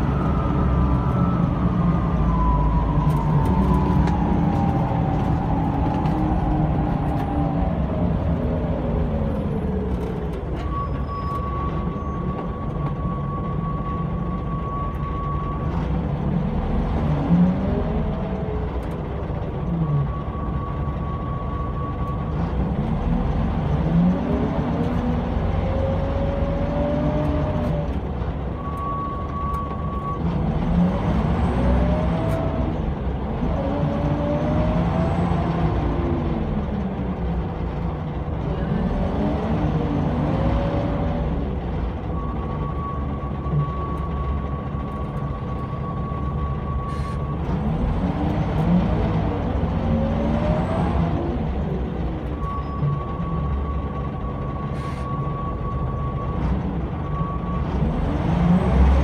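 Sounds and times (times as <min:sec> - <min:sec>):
bus engine running: 0:00.0 - 0:59.0
road rumble: 0:00.0 - 0:59.0.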